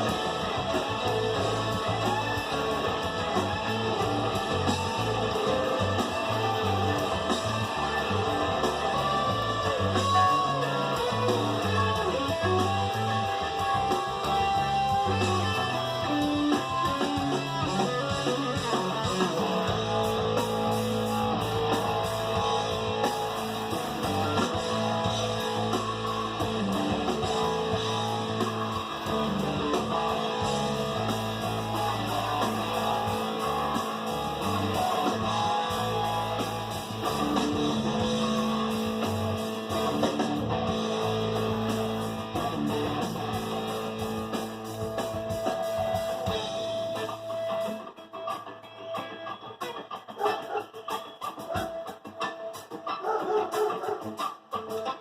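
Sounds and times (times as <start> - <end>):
guitar-led music with bass: 0.0 - 55.0.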